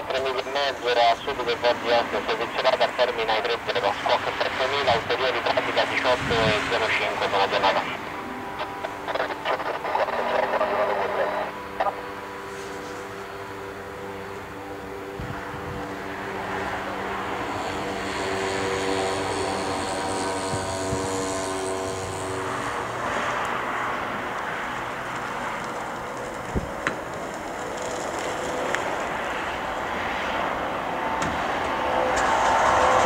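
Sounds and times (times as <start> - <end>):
jet engine whine: 0.0 - 33.0
rush of engine noise: 0.0 - 33.0.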